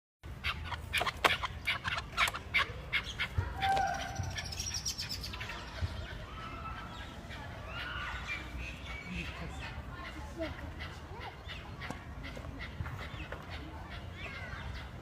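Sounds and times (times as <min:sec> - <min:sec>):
partridge drawn-out calls: 0:00.3 - 0:15.0.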